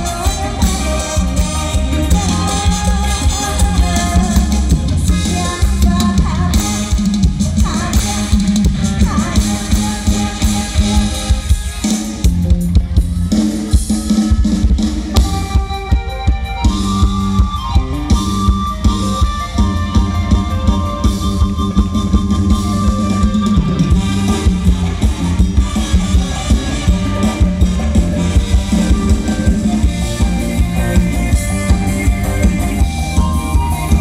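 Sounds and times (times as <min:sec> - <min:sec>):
band music with drums and guitar: 0:00.0 - 0:34.0.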